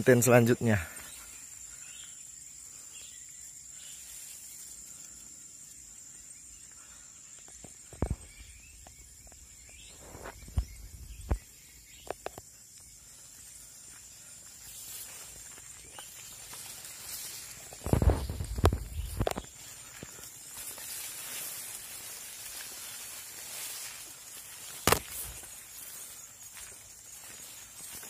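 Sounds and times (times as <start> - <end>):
high-pitched insect drone: 0.0 - 28.0.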